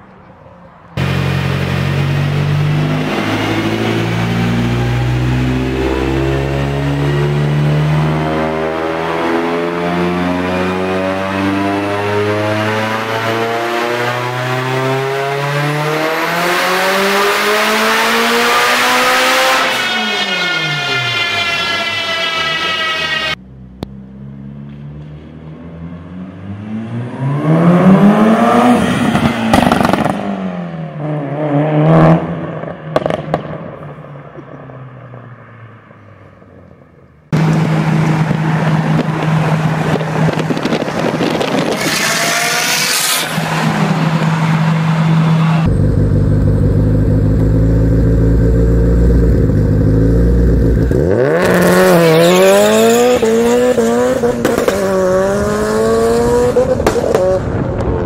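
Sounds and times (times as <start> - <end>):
car accelerating past: 1.0 - 36.7, 37.3 - 58.0.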